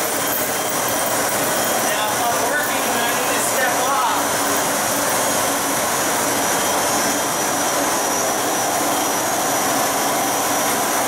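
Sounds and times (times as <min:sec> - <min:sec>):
concrete grinder rushing noise: 0:00.0 - 0:11.0
thin high whine: 0:00.0 - 0:11.0.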